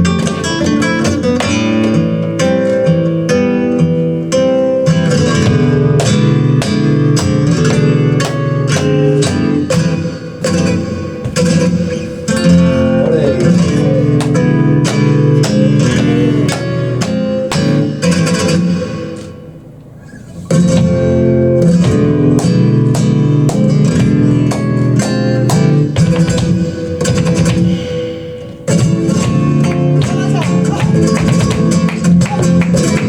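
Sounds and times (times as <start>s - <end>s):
flamenco guitar strumming chords: 0.0s - 33.0s.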